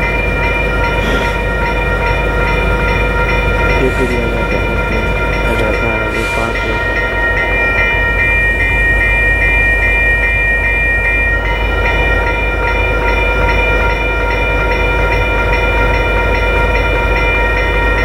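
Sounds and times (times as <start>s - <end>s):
crossing signal bells ringing: 0.0s - 18.0s
freight cars rumbling: 0.0s - 18.0s.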